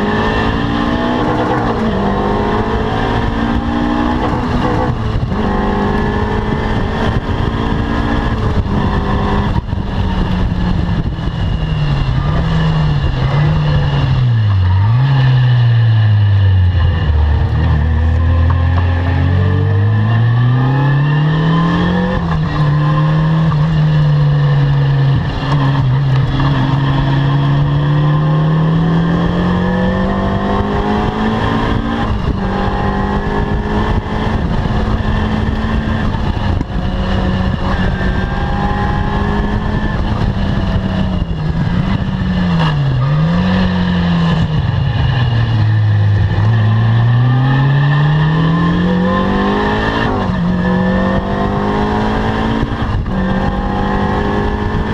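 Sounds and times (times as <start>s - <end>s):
sports car engine revving: 0.0s - 54.9s.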